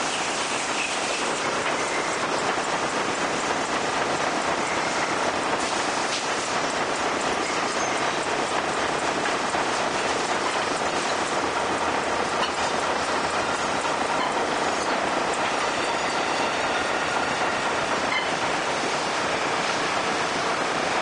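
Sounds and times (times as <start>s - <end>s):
milling machine hiss and rumble: 0.0s - 21.0s.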